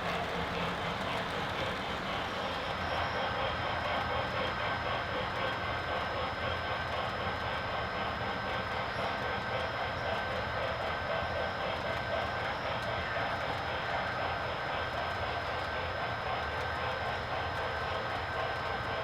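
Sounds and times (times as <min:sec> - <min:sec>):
model train rolling with high whine: 0:00.0 - 0:19.0.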